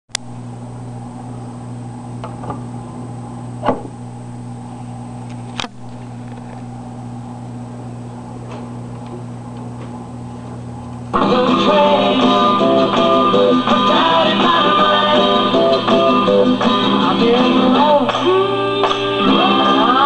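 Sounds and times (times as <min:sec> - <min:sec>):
amplifier humming: 0:00.1 - 0:20.0.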